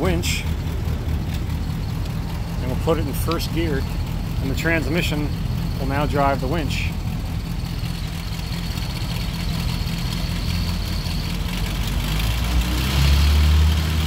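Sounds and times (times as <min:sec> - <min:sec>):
engine idling: 0:00.0 - 0:14.0
winch pulling: 0:00.0 - 0:14.0.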